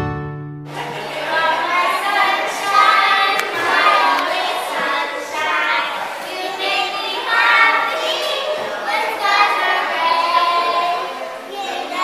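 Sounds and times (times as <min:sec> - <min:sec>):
young children singing: 0:00.7 - 0:12.0.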